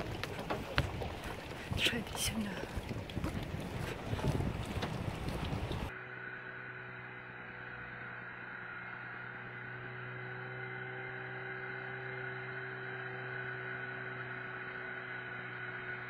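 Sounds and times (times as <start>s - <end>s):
muffled boat engine drone: 0.0s - 16.0s.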